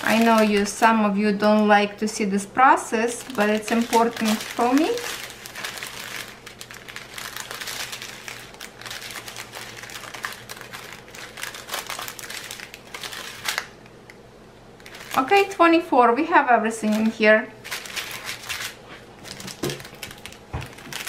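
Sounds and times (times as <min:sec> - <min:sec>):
plastic packets crinkling: 0:00.0 - 0:01.7, 0:03.0 - 0:13.8, 0:14.8 - 0:15.6, 0:16.8 - 0:21.0.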